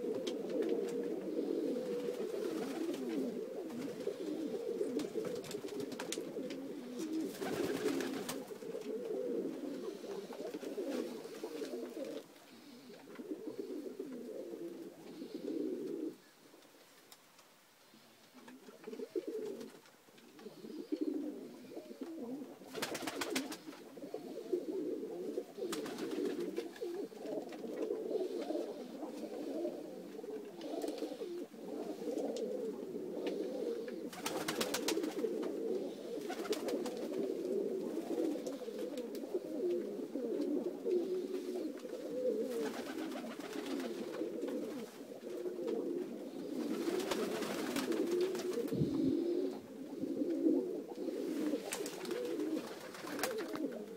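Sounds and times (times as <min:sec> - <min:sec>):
pigeons cooing: 0:00.0 - 0:16.6, 0:18.0 - 0:53.9.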